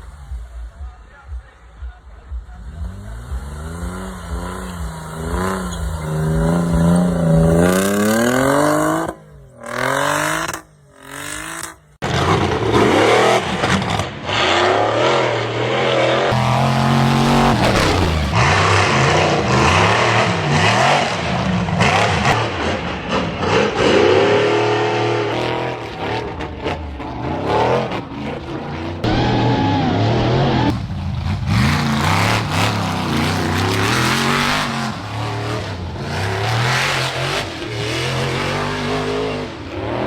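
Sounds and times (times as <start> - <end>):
off-road engine revving hard: 2.3 - 40.0.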